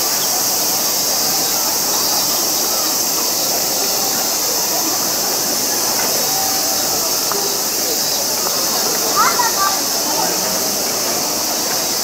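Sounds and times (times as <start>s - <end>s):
faint distant voices: 0.0s - 12.0s
high-pitched hiss: 0.0s - 12.0s.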